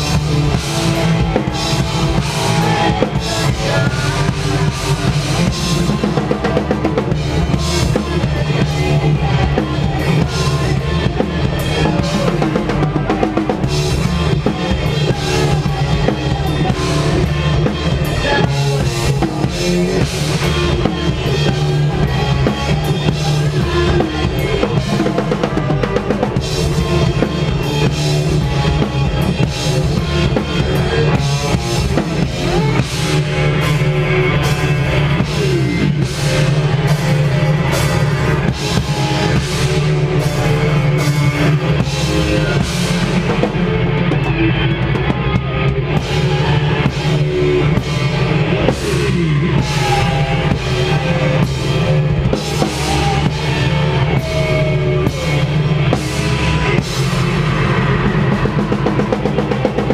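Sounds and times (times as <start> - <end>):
drum kit with heavy bass drum: 0.0 - 59.9
rock band playing loud: 0.0 - 59.9.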